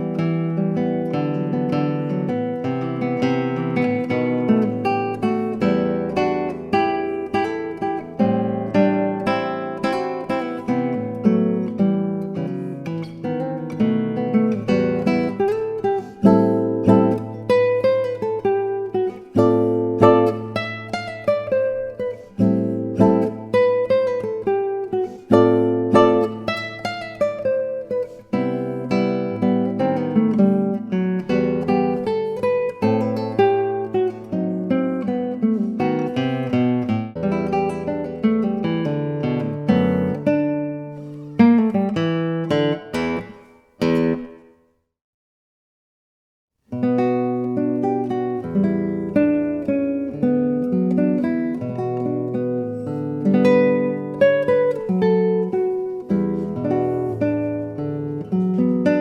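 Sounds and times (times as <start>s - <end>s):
classical guitar playing: 0.0s - 44.7s, 46.6s - 59.0s.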